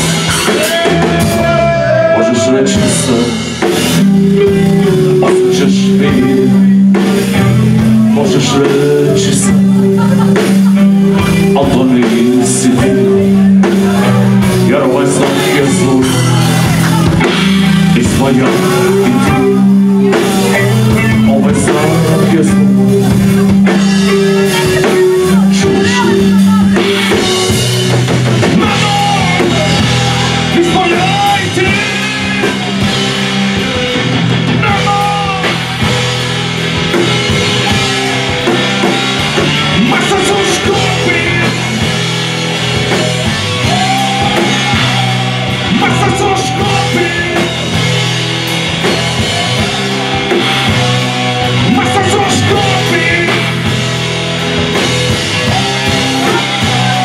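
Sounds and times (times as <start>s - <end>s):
bass guitar: 0.0s - 57.0s
drum kit: 0.0s - 57.0s
electric guitars: 0.0s - 57.0s
person singing: 0.0s - 57.0s.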